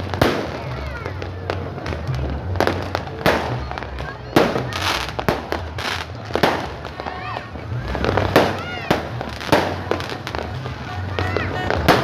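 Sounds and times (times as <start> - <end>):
fireworks bangs and crackling: 0.0 - 12.0
music playing: 0.0 - 12.0.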